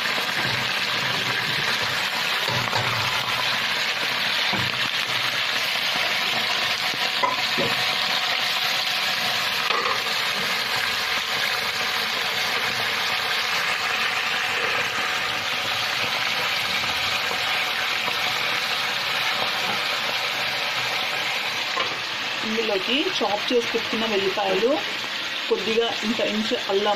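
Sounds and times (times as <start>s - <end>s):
chicken sizzling in hot oil: 0.0s - 26.9s.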